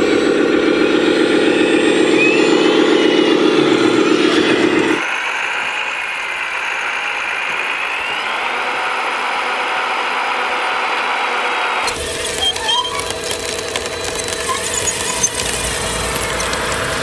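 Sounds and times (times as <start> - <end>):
faint motor whine: 0.0 - 17.0
small motors whirring: 0.0 - 17.0.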